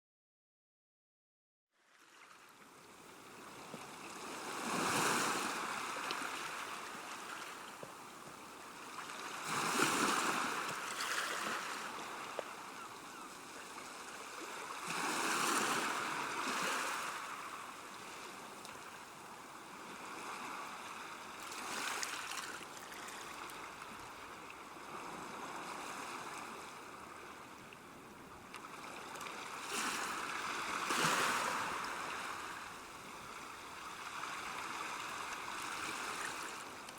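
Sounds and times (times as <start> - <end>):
small waves washing onto shore: 1.9 - 36.9.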